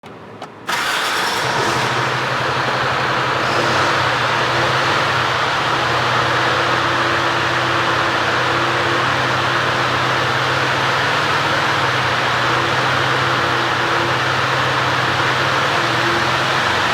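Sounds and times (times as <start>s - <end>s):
diesel truck engine starting and idling: 0.6s - 16.9s.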